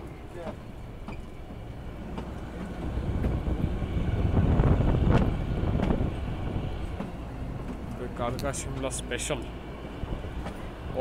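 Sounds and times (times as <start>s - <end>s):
train rumbling: 0.0s - 11.0s
wind buffeting microphone: 0.5s - 11.0s.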